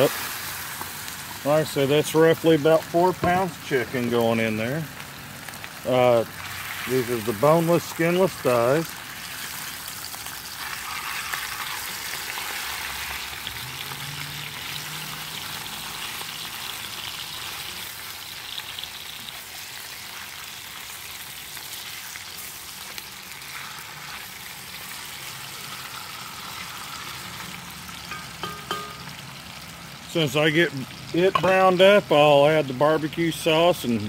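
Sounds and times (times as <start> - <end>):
chicken sizzling in a pot: 0.0 - 34.0.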